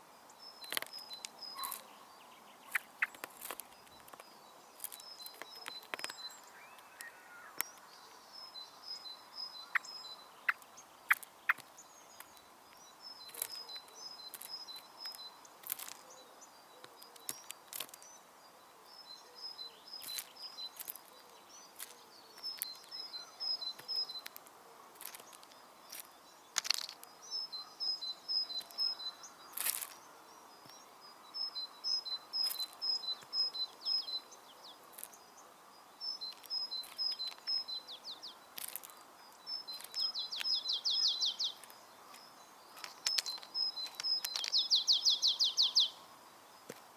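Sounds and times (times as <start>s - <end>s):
steady outdoor hiss: 0.0s - 46.9s.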